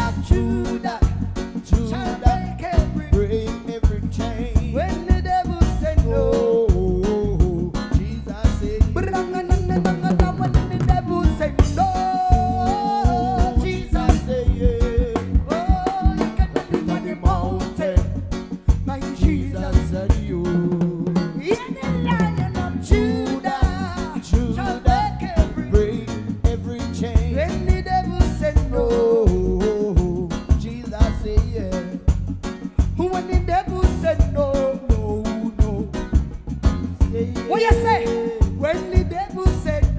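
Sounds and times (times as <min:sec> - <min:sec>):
live reggae band: 0:00.0 - 0:39.9
drum and cymbal hits: 0:06.7 - 0:39.9.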